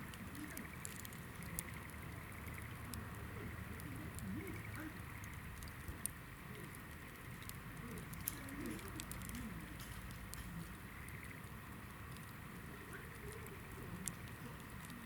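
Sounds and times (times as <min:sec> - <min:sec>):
campfire crackling: 0:00.0 - 0:15.0
fire pops: 0:00.0 - 0:15.0.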